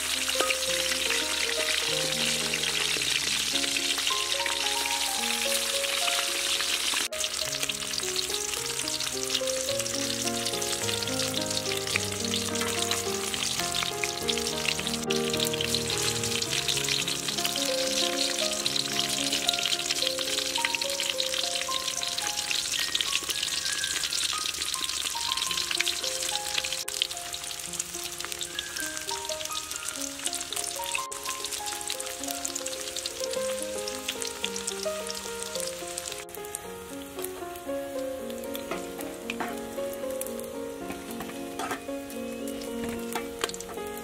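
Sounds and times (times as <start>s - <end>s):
meatballs sizzling in hot oil: 0.0s - 44.0s
soft background music: 0.0s - 44.0s.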